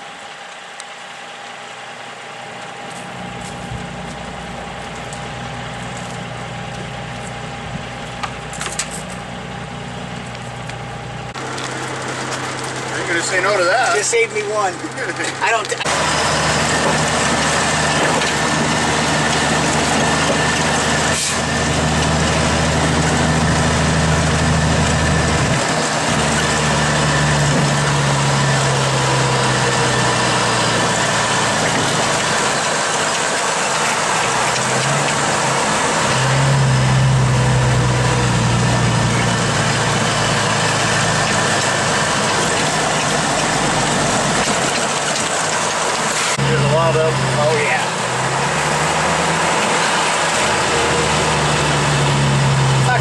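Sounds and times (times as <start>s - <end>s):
road noise: 0.0s - 53.0s
truck diesel engine running: 0.0s - 53.0s.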